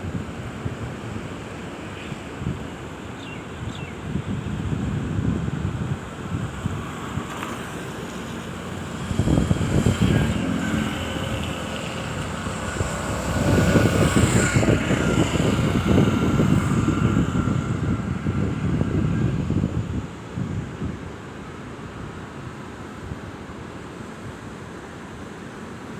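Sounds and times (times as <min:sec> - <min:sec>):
wind buffeting microphone: 0:00.0 - 0:21.4
water rushing from spillway: 0:00.0 - 0:25.9.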